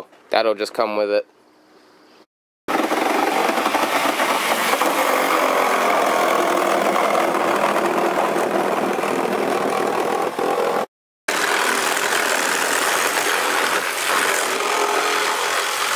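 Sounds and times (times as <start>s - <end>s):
reciprocating saw cutting sheet metal: 2.7s - 15.9s.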